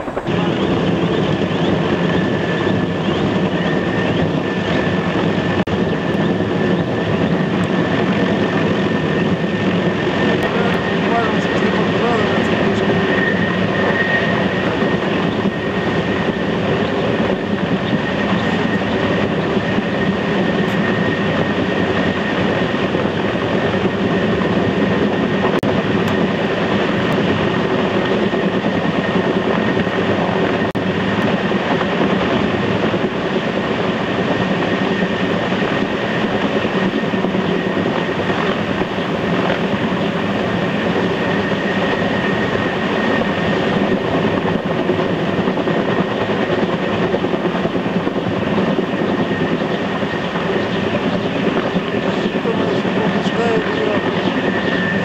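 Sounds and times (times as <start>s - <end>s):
helicopter hovering overhead: 0.0s - 55.0s
high whine: 0.0s - 55.0s.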